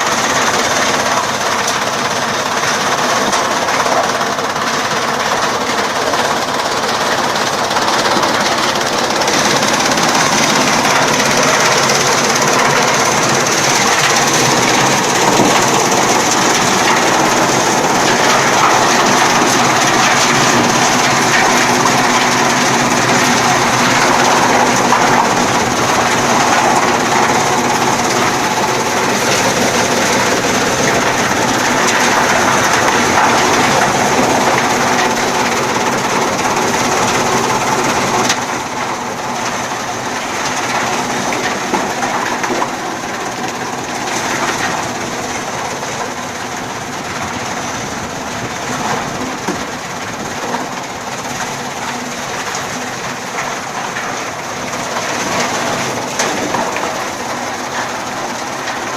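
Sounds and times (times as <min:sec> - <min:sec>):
chaff cutter machine clattering: 0:00.0 - 0:58.9.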